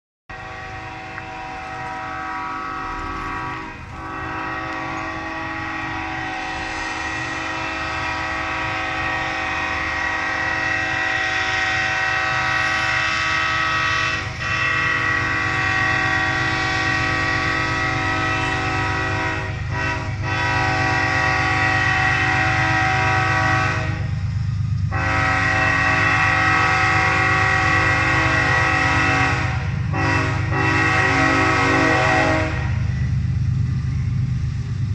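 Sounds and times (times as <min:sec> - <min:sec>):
locomotive air horn: 0:00.3 - 0:24.3, 0:24.9 - 0:33.2
train rumble: 0:00.3 - 0:34.9.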